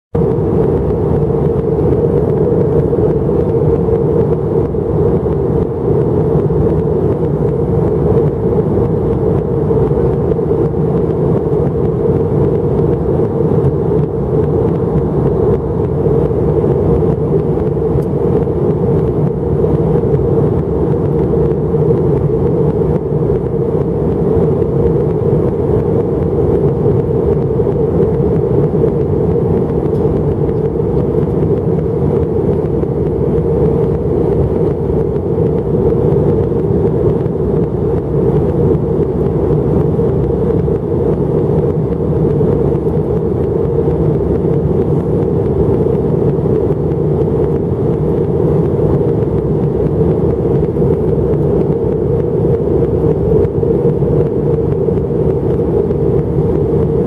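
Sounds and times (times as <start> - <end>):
jet engines droning: 0.1 - 57.0.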